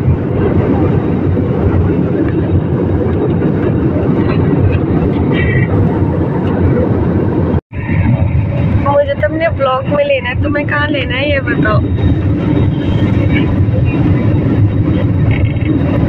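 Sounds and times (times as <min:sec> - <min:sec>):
jet airliner cabin drone: 0:00.0 - 0:16.0.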